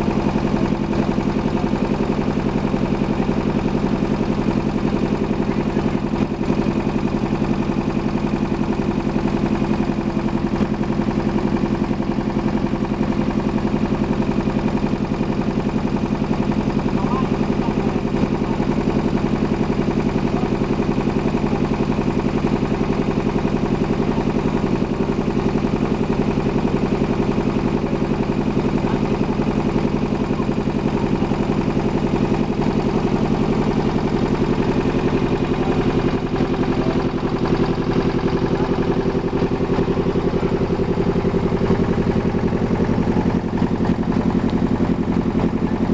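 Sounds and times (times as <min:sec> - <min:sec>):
boat engine throbbing drone: 0:00.0 - 0:45.9.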